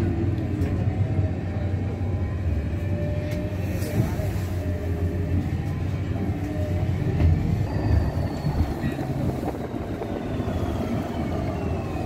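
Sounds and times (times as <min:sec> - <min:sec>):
transit vehicle rumble: 0:00.0 - 0:12.0.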